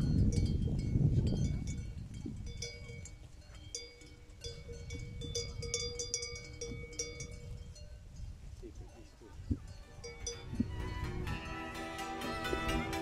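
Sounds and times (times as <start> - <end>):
sheep bells clinking: 0.0 - 13.0.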